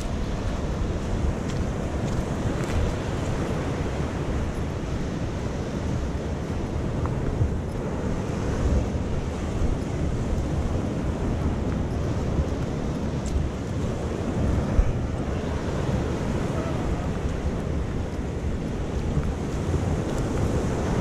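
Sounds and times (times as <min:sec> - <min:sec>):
sea surf washing onto shore: 0:00.0 - 0:21.0
wind rumbling on microphone: 0:00.0 - 0:21.0.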